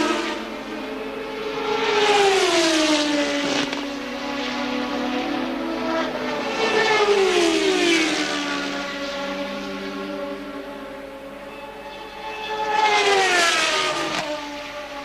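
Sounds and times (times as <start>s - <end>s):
racing cars passing by: 0.0s - 15.0s.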